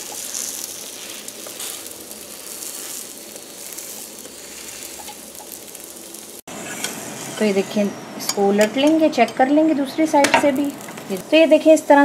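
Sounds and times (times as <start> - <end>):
fat sizzling on a griddle: 0.0 - 7.9, 10.0 - 12.0.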